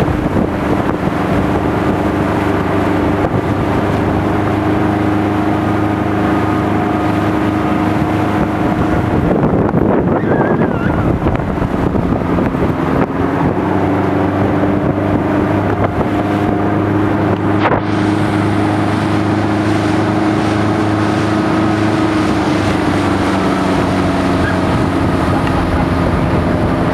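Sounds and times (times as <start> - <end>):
motorboat engine running: 0.0 - 26.9
water rushing in wake: 0.0 - 26.9
wind on microphone: 0.0 - 26.9.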